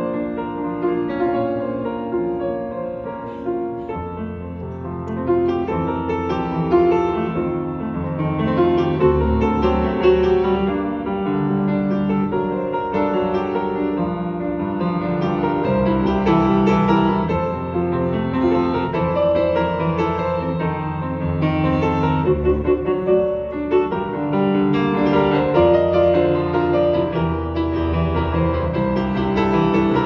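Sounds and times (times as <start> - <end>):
solo piano chords: 0.0 - 30.0.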